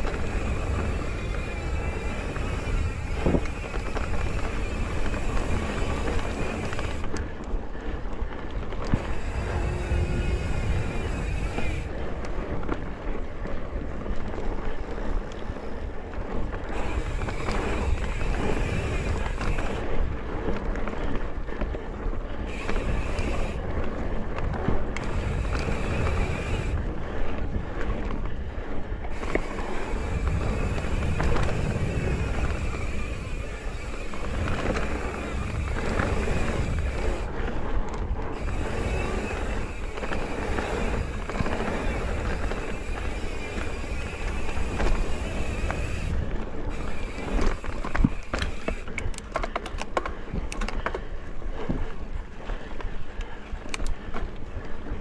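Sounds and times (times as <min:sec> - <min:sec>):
bike rattles and clicks: 0:00.0 - 0:55.0
tyres rumbling over dirt trail: 0:00.0 - 0:55.0
wind on microphone: 0:00.0 - 0:55.0.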